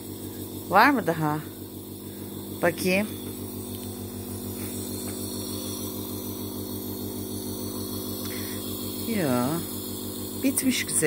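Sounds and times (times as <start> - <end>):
air compressor pulsing hum: 0.0 - 11.0.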